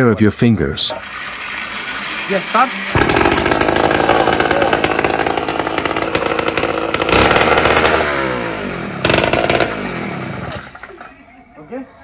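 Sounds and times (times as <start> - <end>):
small two-stroke engine running: 0.9 - 11.1.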